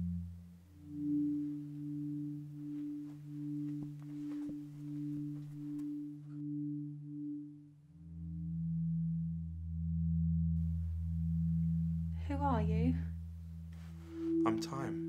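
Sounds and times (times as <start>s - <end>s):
low synth drone: 0.0s - 15.0s
pulsing high tone: 0.0s - 15.0s.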